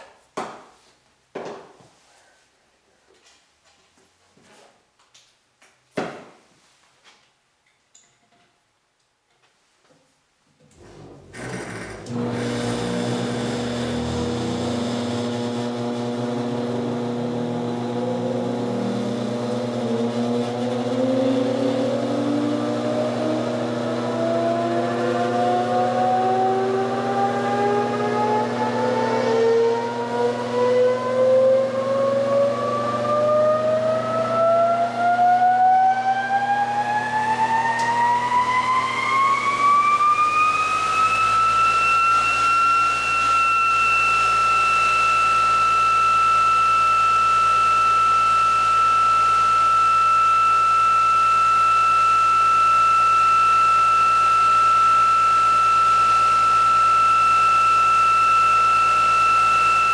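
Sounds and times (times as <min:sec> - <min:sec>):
electric motor whine: 0:10.8 - 0:59.9.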